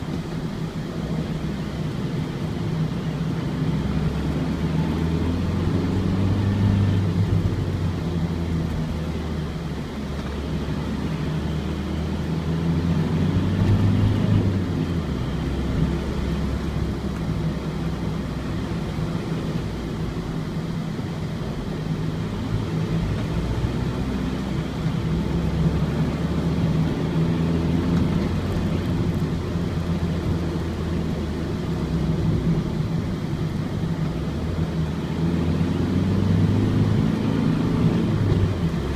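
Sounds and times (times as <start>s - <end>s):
road rumble: 0.0s - 38.9s
van diesel engine: 0.0s - 38.9s.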